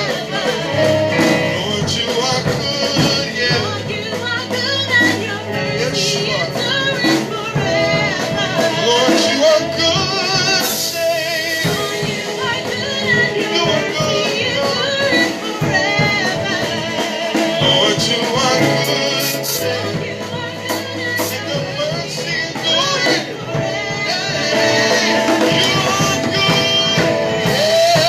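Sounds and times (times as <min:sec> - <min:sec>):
gospel band playing: 0:00.0 - 0:28.0
person singing: 0:00.0 - 0:28.0.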